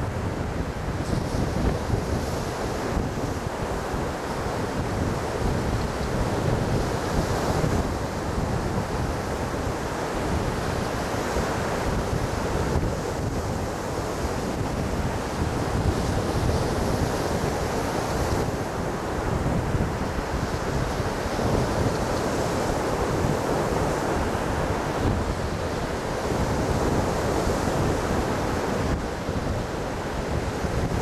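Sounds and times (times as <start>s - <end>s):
waves breaking on sand: 0.0s - 31.0s
wind on microphone: 0.0s - 31.0s.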